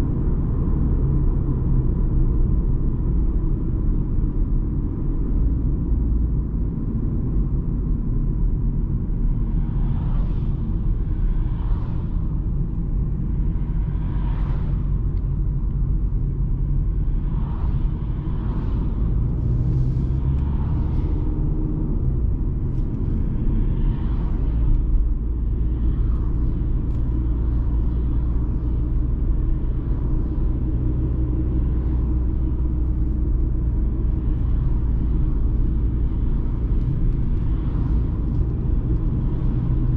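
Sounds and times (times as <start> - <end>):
car engine and road noise rumble: 0.0 - 39.9.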